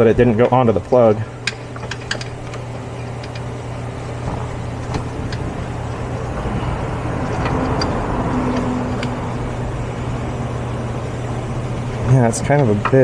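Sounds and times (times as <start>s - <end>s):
low hum of shop machinery: 0.0s - 13.0s.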